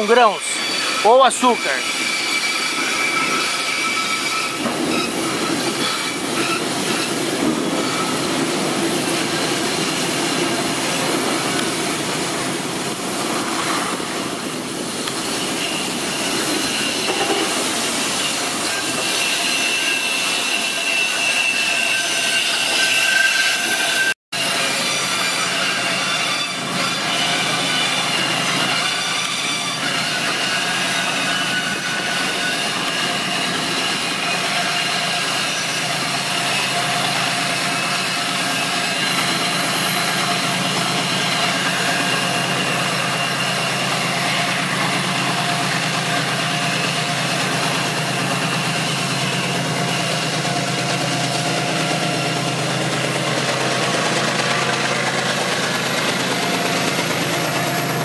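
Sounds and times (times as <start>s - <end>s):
steel wheels squealing on rails: 0.0s - 58.0s.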